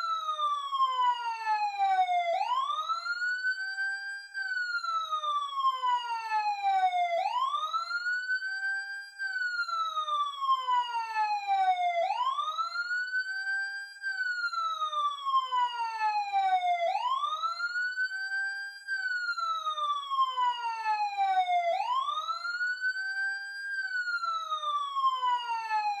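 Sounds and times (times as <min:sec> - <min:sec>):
emergency siren wailing: 0:00.0 - 0:26.0.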